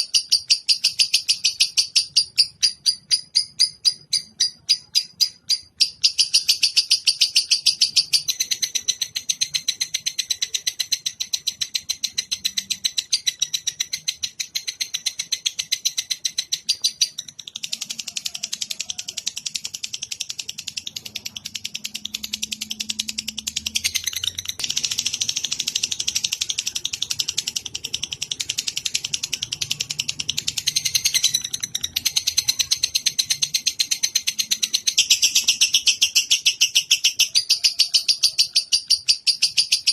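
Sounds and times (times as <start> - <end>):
songbird chattering trill: 0.0 - 39.9.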